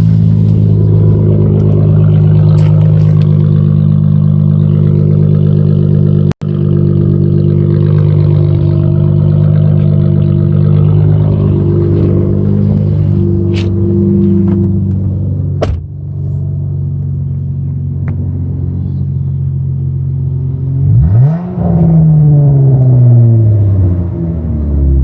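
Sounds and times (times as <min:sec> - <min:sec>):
loud deep engine exhaust: 0:00.0 - 0:25.0.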